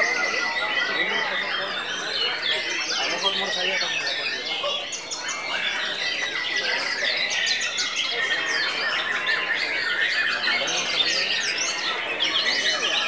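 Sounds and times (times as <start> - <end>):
birds singing whistles and trills: 0.0 - 13.0.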